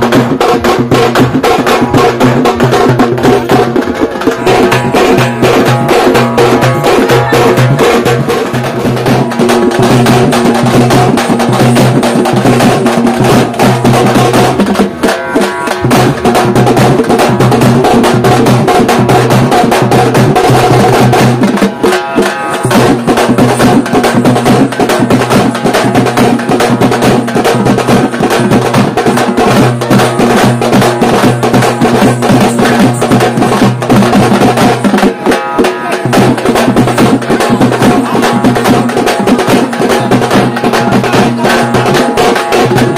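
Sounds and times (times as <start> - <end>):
frame drums beaten fast: 0.0 - 42.9.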